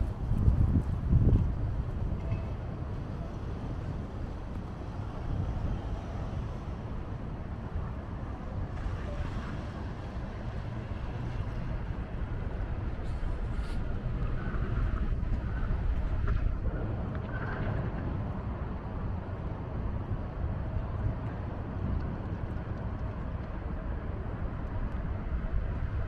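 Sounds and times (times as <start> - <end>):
low city rumble: 0.0 - 26.0.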